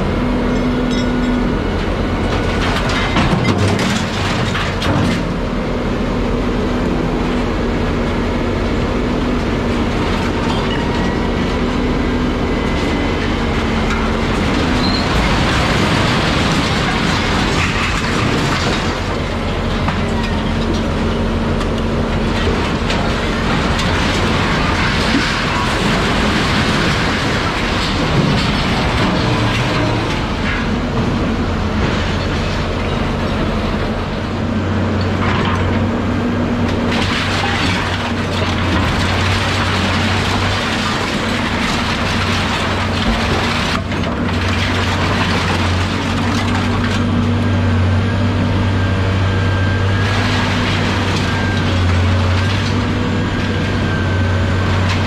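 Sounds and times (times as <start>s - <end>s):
heavy engine humming: 0.0s - 55.0s.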